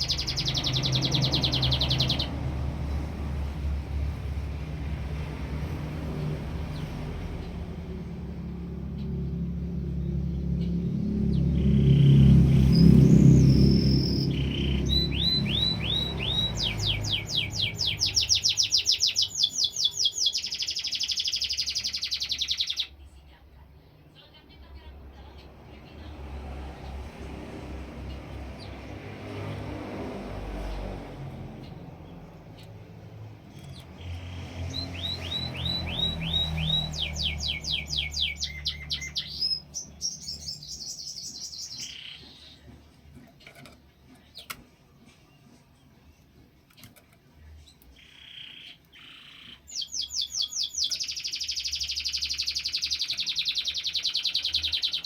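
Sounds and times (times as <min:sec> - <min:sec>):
canary singing: 0:00.0 - 0:23.2, 0:28.0 - 0:55.0.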